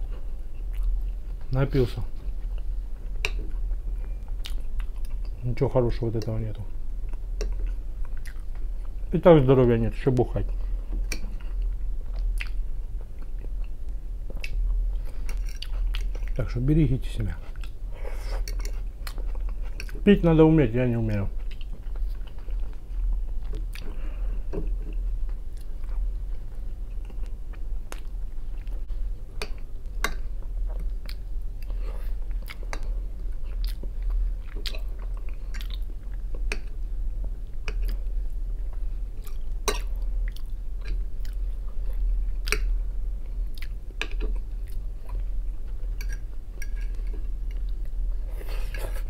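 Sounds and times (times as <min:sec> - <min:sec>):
person chewing food: 0:00.0 - 0:01.5, 0:02.2 - 0:05.4, 0:07.0 - 0:09.0, 0:10.4 - 0:16.4, 0:17.4 - 0:20.0, 0:21.3 - 0:49.0
steady low hum: 0:00.0 - 0:49.0.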